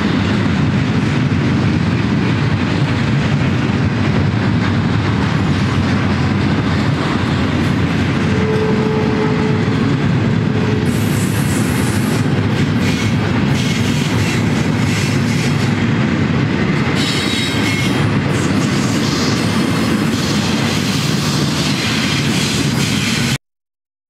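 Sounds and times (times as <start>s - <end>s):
train cars rolling on rails: 0.0s - 23.4s.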